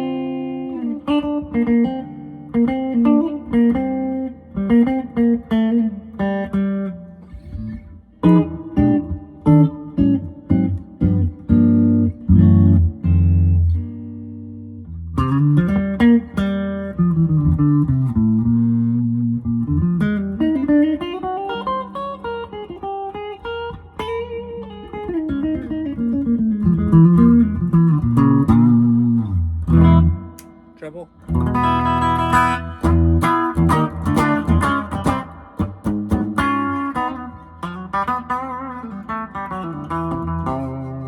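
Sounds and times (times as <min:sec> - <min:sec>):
electric guitar playing: 0:00.0 - 0:41.0.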